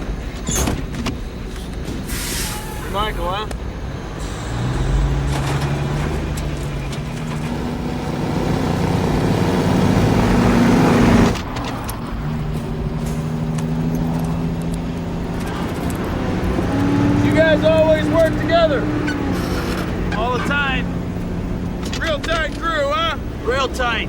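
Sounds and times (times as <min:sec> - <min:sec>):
road noise: 0:00.0 - 0:24.0
vehicle engine running: 0:02.8 - 0:24.0.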